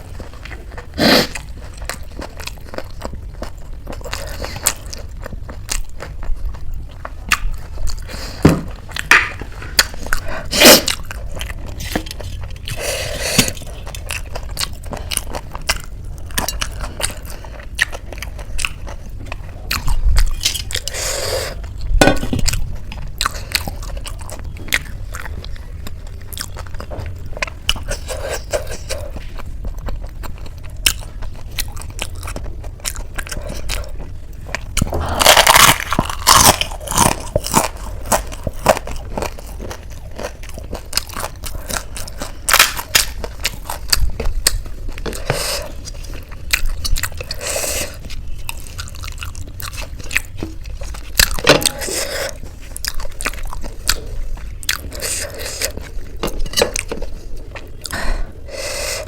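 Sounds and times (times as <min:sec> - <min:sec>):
crunching crisp snacks: 0:09.8 - 0:58.0.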